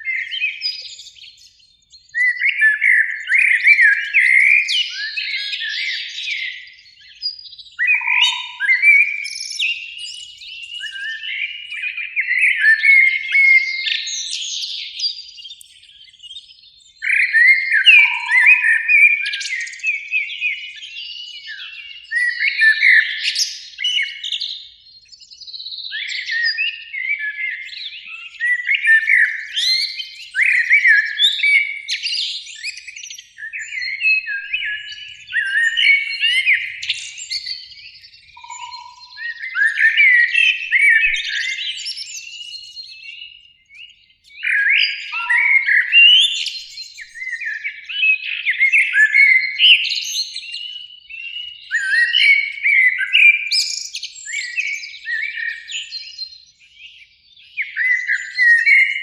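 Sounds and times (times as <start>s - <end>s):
blackbirds singing: 0.0s - 59.0s.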